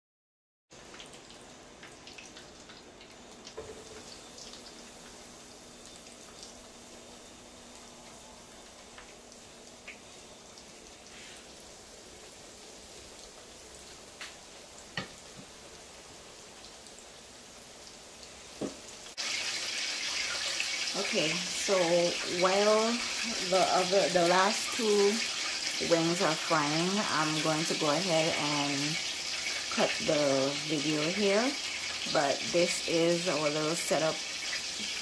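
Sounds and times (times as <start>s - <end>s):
chicken frying in hot oil: 0.7s - 35.0s.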